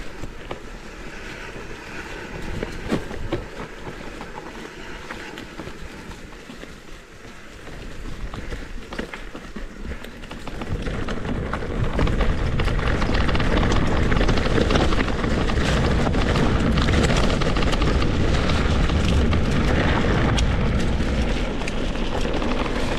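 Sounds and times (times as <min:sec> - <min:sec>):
bike rattling on rough ground: 0:00.0 - 0:22.9
wind rushing over microphone: 0:00.0 - 0:22.9.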